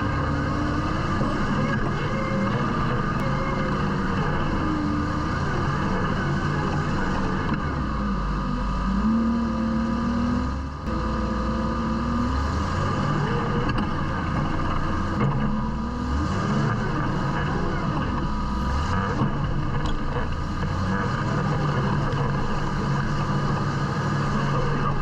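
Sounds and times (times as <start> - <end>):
utility vehicle engine revving: 0.0 - 25.0.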